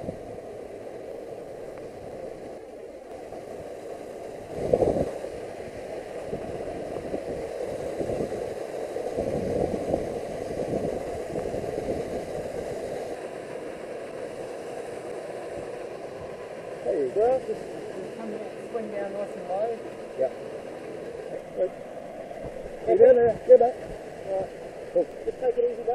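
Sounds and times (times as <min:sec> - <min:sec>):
stream water rushing: 0:00.0 - 0:25.9.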